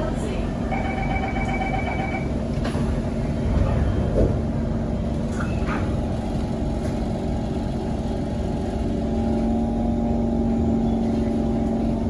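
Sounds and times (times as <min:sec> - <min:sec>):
train car hum and rumble: 0:00.0 - 0:12.0.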